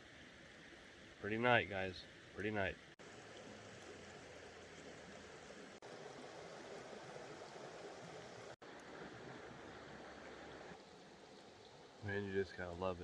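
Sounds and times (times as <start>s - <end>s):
creek running over rocks: 0.0s - 13.0s.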